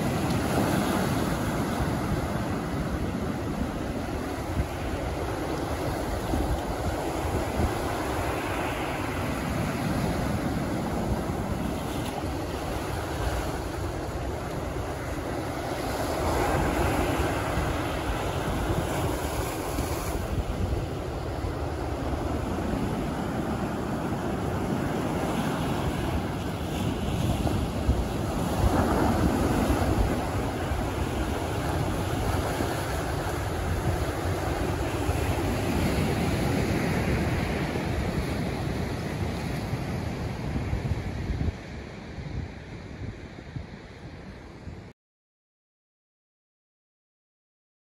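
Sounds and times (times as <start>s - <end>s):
ocean surf breaking: 0.0s - 44.8s
wind buffeting microphone: 0.0s - 44.9s.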